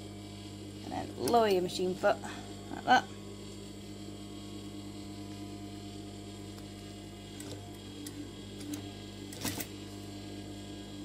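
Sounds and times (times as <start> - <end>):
sewing machine motor hum: 0.0 - 11.0.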